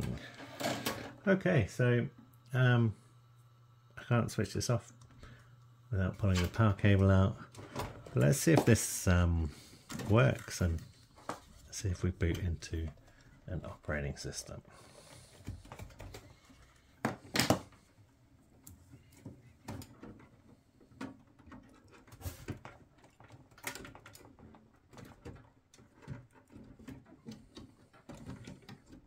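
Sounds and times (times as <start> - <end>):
cables and plastic connectors handled: 4.9 - 17.9, 18.5 - 29.0.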